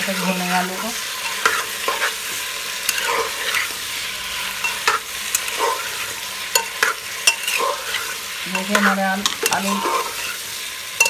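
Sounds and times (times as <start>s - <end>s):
potatoes sizzling in oil: 0.0s - 11.0s
spatula scraping metal pot: 0.1s - 3.8s, 4.4s - 10.6s.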